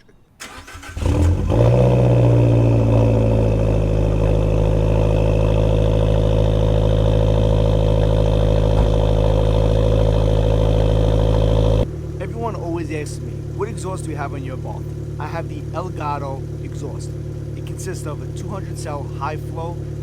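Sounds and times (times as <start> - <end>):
car engine cold start and high idle: 0.4 - 20.0.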